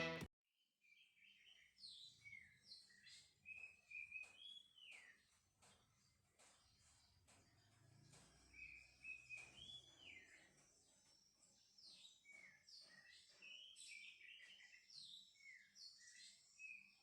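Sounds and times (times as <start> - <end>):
faint bird chirping: 0.8 - 17.0.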